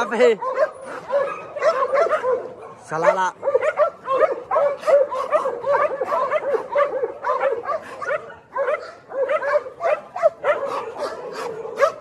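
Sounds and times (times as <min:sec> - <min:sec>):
many dogs barking and yipping: 0:00.0 - 0:12.0.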